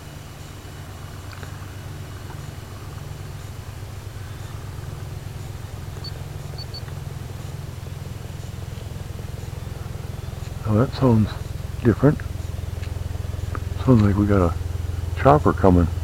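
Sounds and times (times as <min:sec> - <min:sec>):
helicopter rotor throb: 0:00.0 - 0:16.0.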